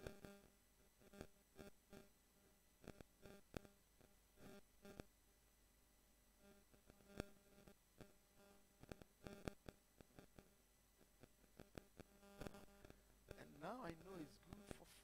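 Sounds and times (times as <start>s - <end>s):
soft clicks and crackles: 0.0s - 5.2s, 6.4s - 15.0s
faint electrical hum: 0.0s - 15.0s.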